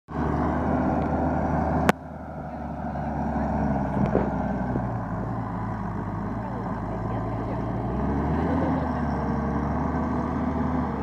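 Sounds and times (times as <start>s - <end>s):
vehicle engine idling: 0.1s - 11.0s.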